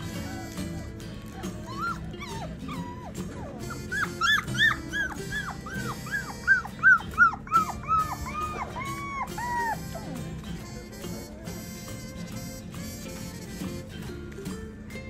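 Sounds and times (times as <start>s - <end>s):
puppy yelping: 0.0s - 13.8s.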